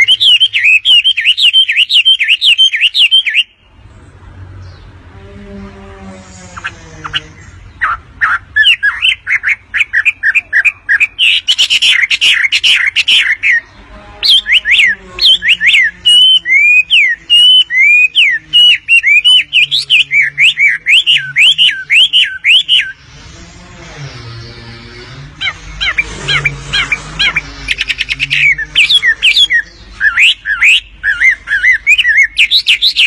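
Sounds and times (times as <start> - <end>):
swooping whistled bird notes: 0.0 - 3.7, 6.6 - 23.0, 24.4 - 33.0
songbird sharp repeated chirps: 0.0 - 3.9, 7.1 - 23.0, 25.8 - 33.0.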